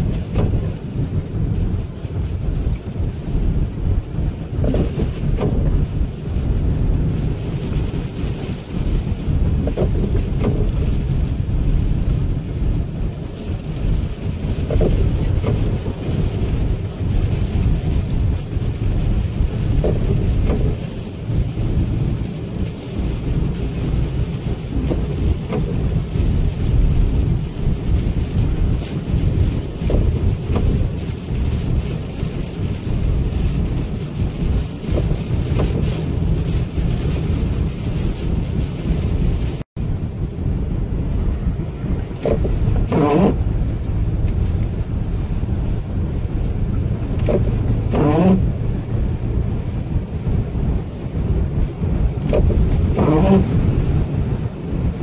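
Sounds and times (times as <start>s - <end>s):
tyre and road noise: 0.0s - 55.0s
wind buffeting car: 0.0s - 55.0s.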